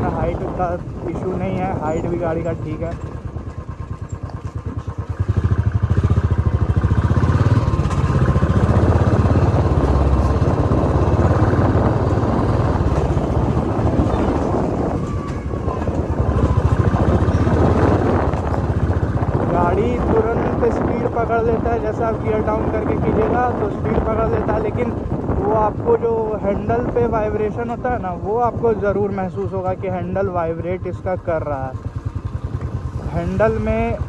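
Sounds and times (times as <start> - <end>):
motorcycle engine thumping: 0.0 - 34.0.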